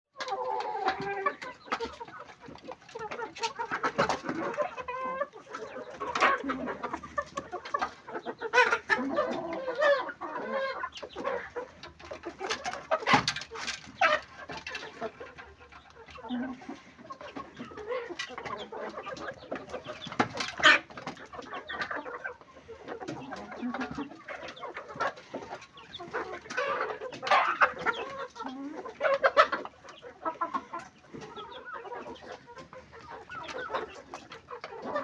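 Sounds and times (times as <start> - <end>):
chickens clucking and squawking: 0.1 - 35.0.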